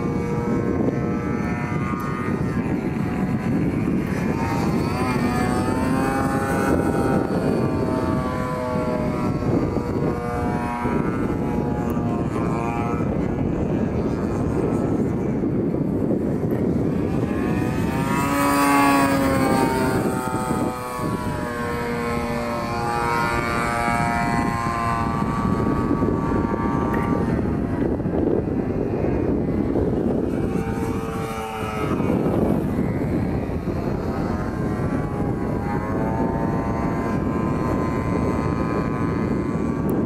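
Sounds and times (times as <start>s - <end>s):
biplane engine and propeller drone: 0.0s - 40.0s.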